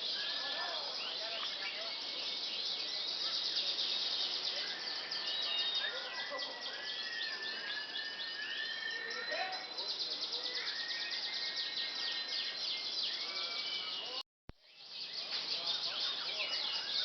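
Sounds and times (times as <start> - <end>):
canaries singing: 0.0 - 14.2, 14.8 - 17.0.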